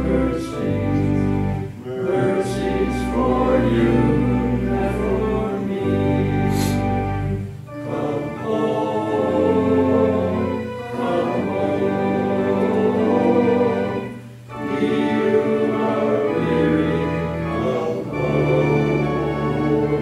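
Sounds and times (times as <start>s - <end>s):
instrumental accompaniment: 0.0s - 20.0s
voices singing a hymn: 0.0s - 20.0s.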